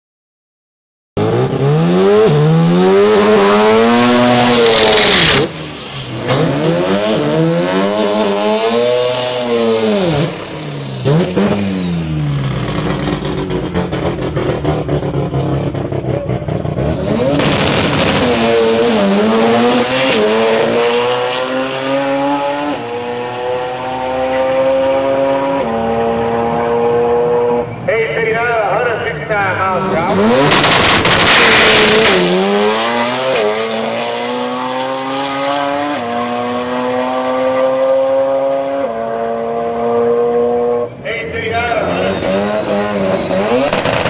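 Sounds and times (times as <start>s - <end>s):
car engine revving: 1.2s - 27.8s, 29.1s - 44.0s.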